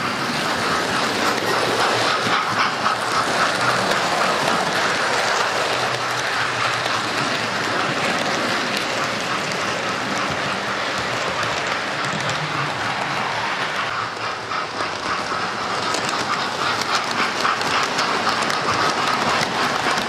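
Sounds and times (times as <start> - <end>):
model train motors whirring: 0.0 - 20.0
wheels clicking over rail joints: 0.0 - 20.0.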